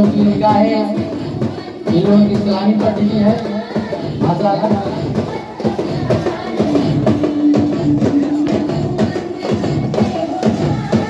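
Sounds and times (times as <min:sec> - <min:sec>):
rhythmic drumming and percussion: 0:00.0 - 0:11.0.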